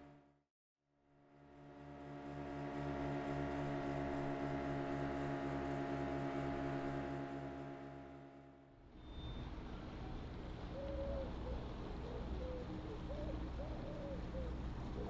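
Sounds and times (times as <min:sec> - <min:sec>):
motorboat engine droning: 0:01.0 - 0:15.0.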